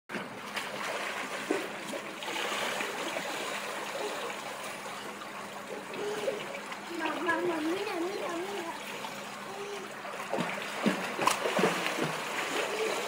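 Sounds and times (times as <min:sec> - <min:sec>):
child splashing pool water: 0:00.1 - 0:13.0.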